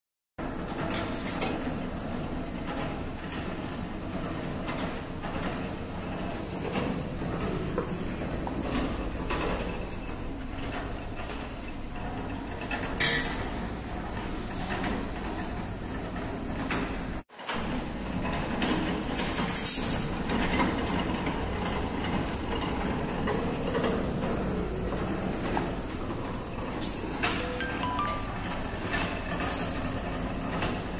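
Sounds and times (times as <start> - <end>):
high-pitched machine whine: 0.4 - 30.9
machine rollers rumbling: 0.4 - 30.9.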